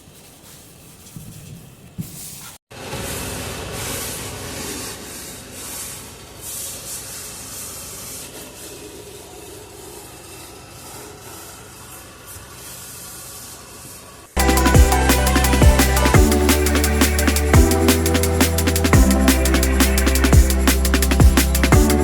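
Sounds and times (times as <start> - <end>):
scrubbing strokes on a surface: 0.0 - 22.0.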